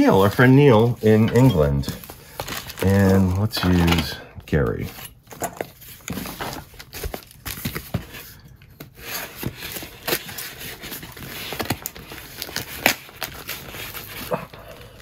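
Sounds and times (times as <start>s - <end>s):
cardboard flaps crinkling: 0.0s - 15.0s.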